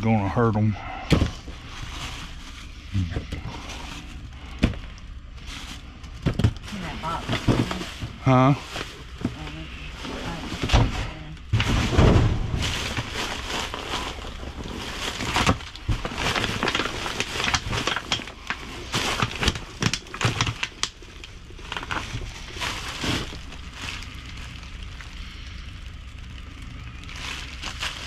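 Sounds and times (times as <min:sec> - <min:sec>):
plastic packaging crinkling: 0:01.5 - 0:02.9, 0:03.5 - 0:10.7, 0:11.4 - 0:28.0.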